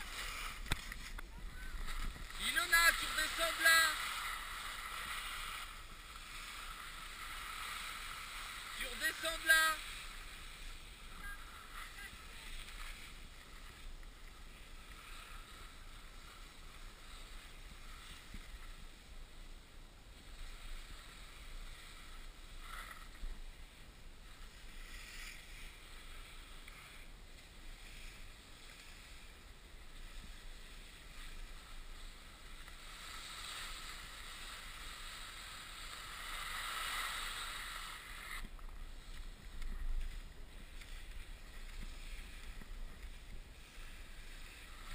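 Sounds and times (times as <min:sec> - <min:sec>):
skis scraping over snow: 0:00.0 - 0:44.9.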